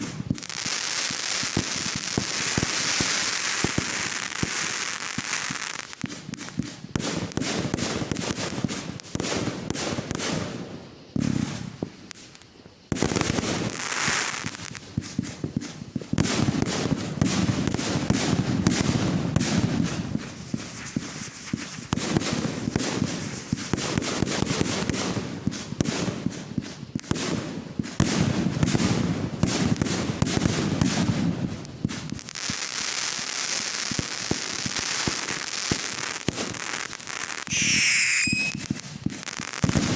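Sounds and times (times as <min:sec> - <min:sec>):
deep fireworks booms: 0:00.0 - 0:12.1, 0:12.9 - 0:32.6, 0:37.4 - 0:39.9
fireworks bangs and crackling: 0:00.0 - 0:39.9.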